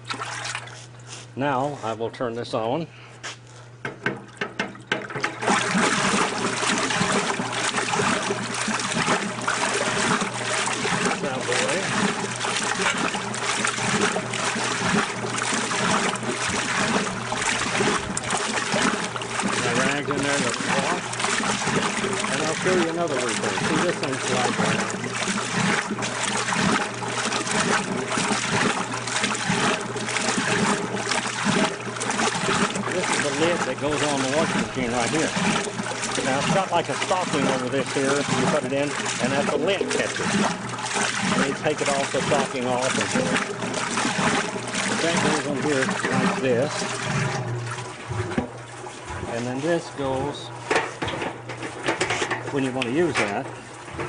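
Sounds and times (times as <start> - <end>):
water gushing from drain hose: 0.0 - 0.8, 4.7 - 50.7, 51.3 - 54.0
motor humming: 5.2 - 54.0.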